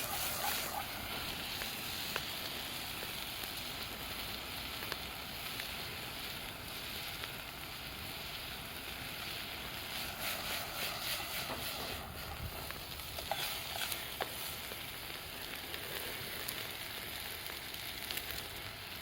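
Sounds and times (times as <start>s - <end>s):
food sizzling over campfire: 0.0s - 19.0s.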